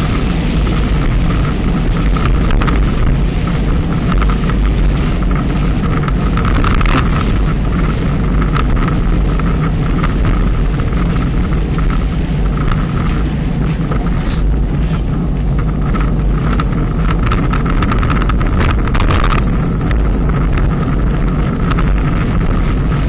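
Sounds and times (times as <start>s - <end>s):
light clicks and rattles: 0.0s - 23.0s
wind buffeting microphone: 0.0s - 23.0s.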